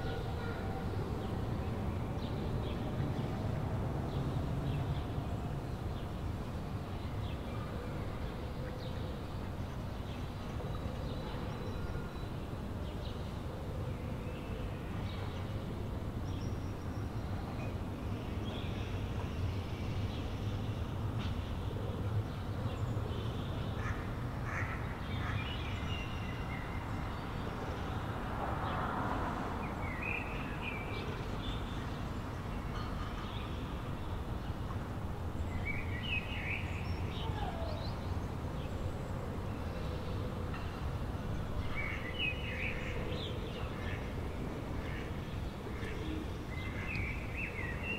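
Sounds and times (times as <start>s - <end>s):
distant urban traffic rumble: 0.0s - 47.9s.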